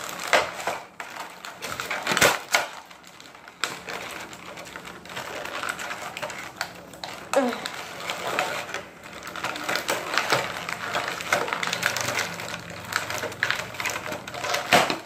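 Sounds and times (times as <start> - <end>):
plastic packaging crackling: 0.0 - 15.0
plastic snapping: 0.0 - 15.0.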